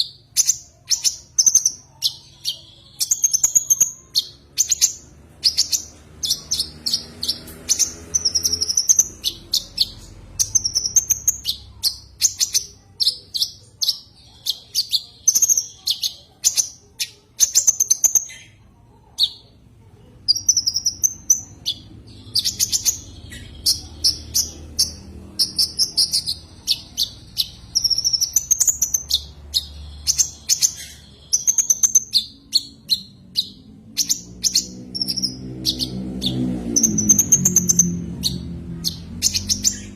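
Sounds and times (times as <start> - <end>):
sunbird chirping and twittering: 0.0 - 39.9.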